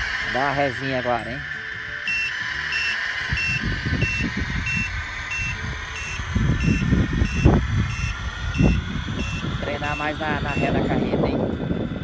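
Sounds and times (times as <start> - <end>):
reversing alarm beeping: 0.0 - 11.2
low rumbling: 0.0 - 12.0.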